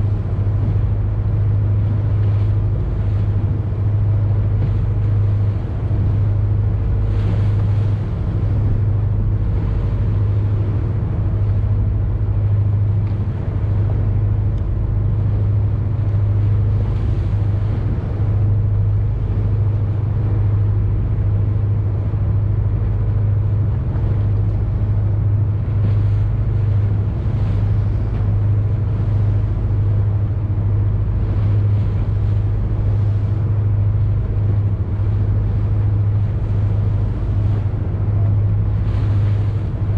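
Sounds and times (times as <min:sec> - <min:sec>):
boat engine humming: 0:00.0 - 0:39.9
hiss of wind and water: 0:00.0 - 0:39.9.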